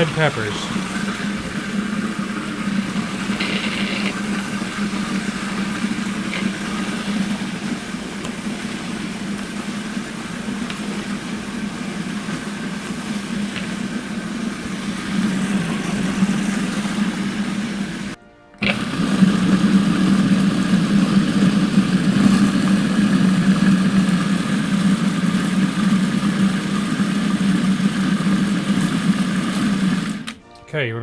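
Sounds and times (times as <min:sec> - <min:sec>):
food processor motor running: 0:00.0 - 0:30.4.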